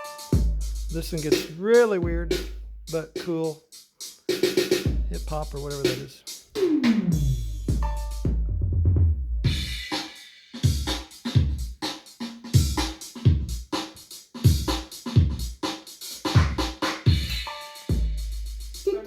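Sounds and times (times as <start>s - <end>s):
electronic drum beat: 0.0s - 19.0s.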